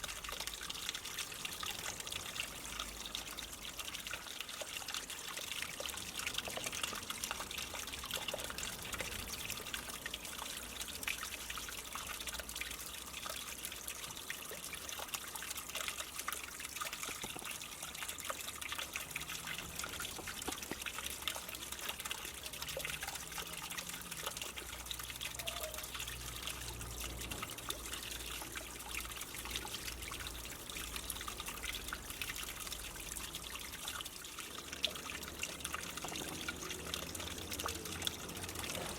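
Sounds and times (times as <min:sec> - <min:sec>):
water splashing into a pond: 0:00.0 - 0:38.9.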